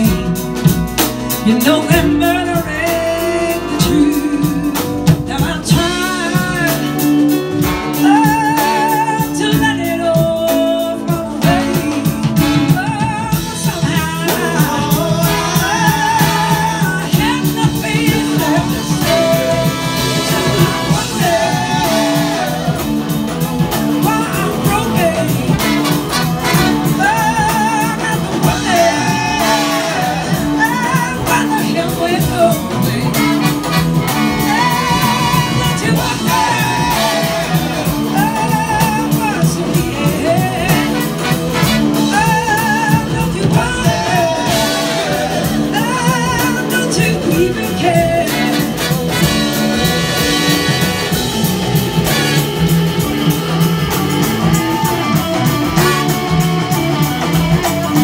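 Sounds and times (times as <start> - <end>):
blues rock band playing: 0.0 - 58.0
lead electric guitar melody: 0.0 - 58.0.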